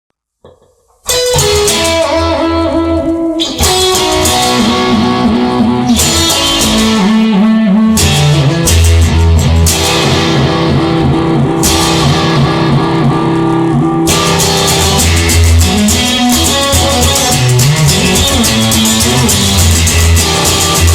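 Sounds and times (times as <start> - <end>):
instrumental rock music: 0.4 - 20.9.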